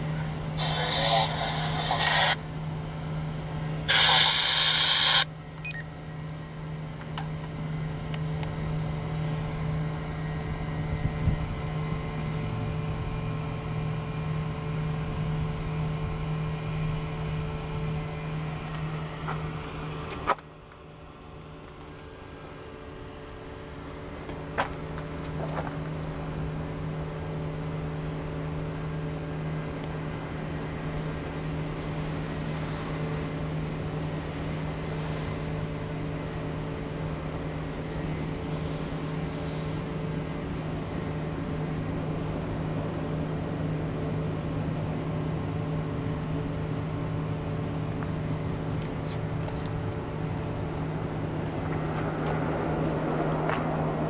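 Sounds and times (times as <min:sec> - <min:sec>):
propeller engines humming: 0:00.0 - 0:54.0.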